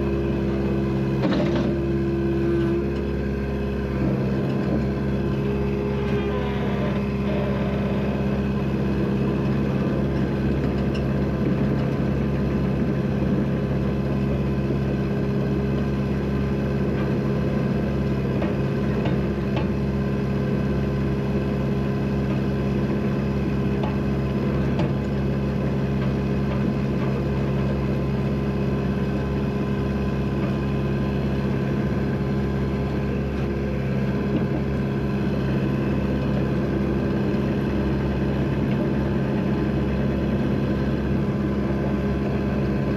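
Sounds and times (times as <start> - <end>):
vehicle engine running steadily: 0.0 - 42.9.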